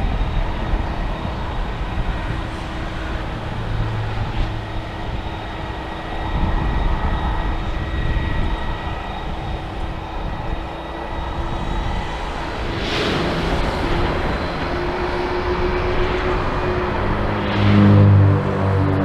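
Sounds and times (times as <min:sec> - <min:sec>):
jet engines whining: 0:00.0 - 0:19.0
low engine rumble: 0:00.0 - 0:19.0.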